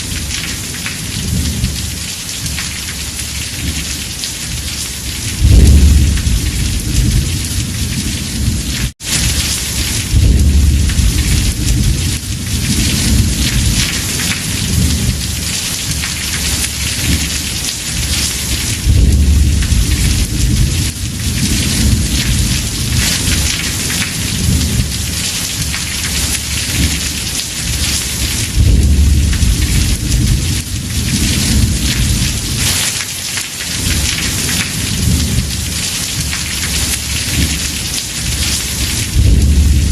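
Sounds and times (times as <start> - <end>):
thunder rumbling: 0.0 - 2.7, 3.4 - 33.0, 33.8 - 39.9
heavy rain drumming on a roof: 0.0 - 39.9.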